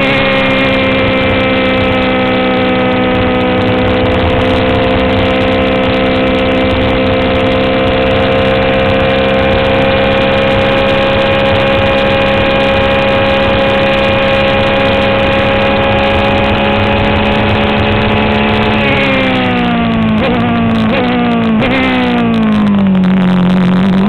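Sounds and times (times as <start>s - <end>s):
race car engine at full throttle: 0.0s - 24.0s
wind noise: 0.0s - 24.0s.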